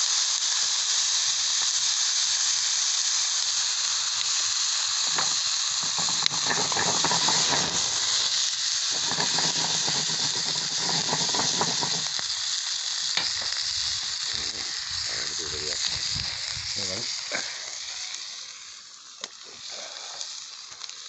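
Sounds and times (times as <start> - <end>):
patties sizzling in a pan: 0.0 - 21.0.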